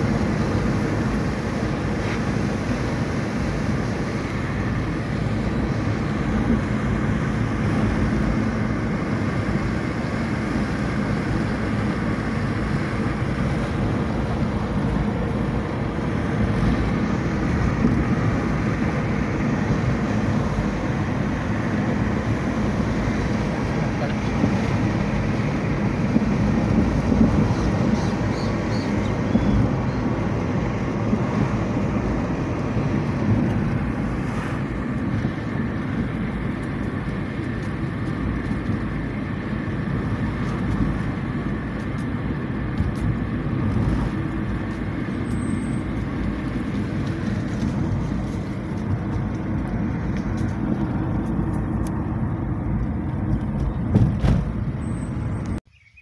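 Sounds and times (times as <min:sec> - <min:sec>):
engine and tyre rumble in car: 0:00.0 - 0:56.0.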